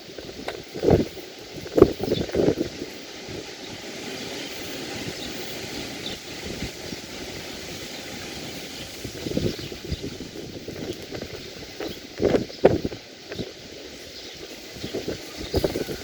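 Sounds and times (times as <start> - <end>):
sea surf on a beach: 0.0 - 16.0
wind rumbling on microphone: 0.0 - 16.0.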